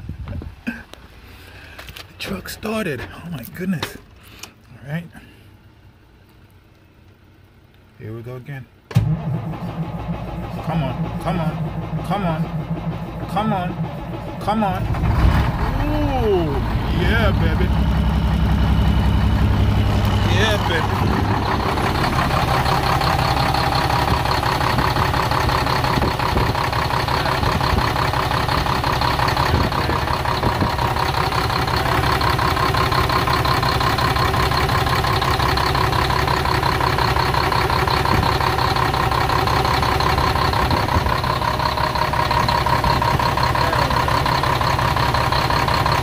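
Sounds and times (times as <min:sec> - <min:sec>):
diesel engine idling: 0:01.0 - 0:46.0.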